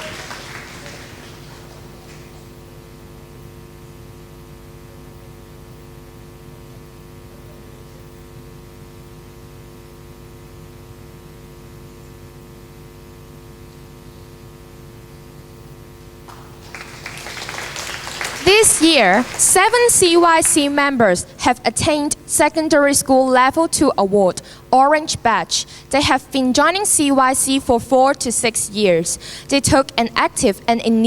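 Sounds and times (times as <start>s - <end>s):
electrical hum: 0.0s - 31.0s.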